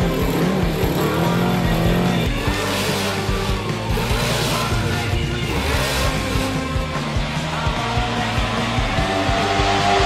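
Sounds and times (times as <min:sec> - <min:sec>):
background music: 0:00.0 - 0:10.0
racing engine revving: 0:00.0 - 0:10.0.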